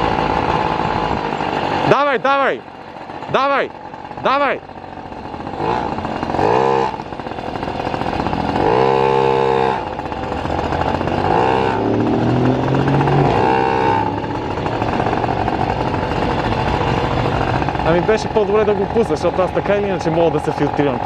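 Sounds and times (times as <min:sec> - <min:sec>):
street noise: 0:00.0 - 0:21.0
vehicle engine revving: 0:00.0 - 0:21.0.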